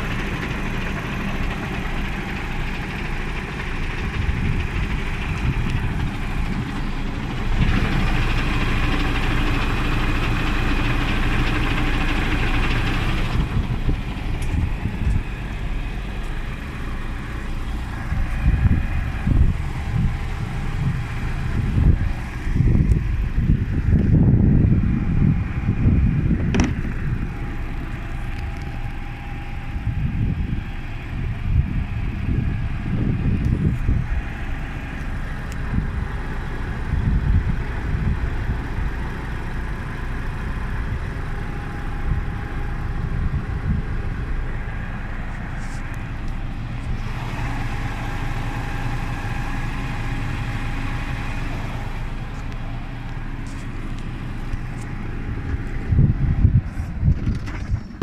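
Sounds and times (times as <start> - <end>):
low uneven rumble: 0.0 - 58.0.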